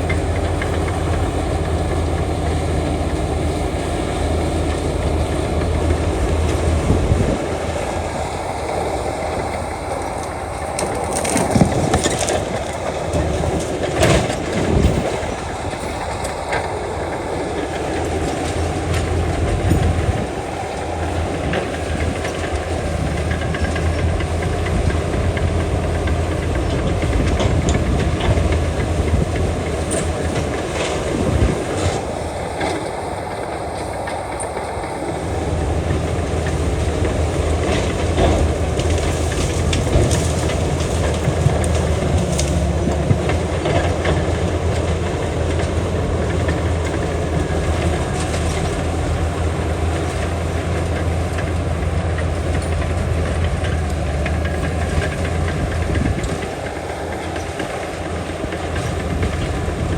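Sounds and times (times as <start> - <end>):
diesel engine droning: 0.0 - 59.9
steel tracks clanking: 0.0 - 59.9.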